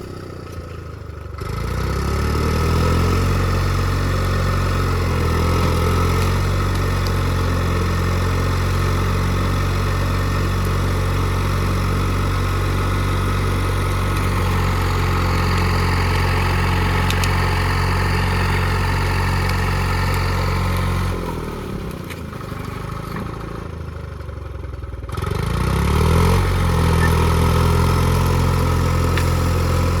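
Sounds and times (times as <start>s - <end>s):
two-stroke diesel engine running: 0.0s - 30.0s.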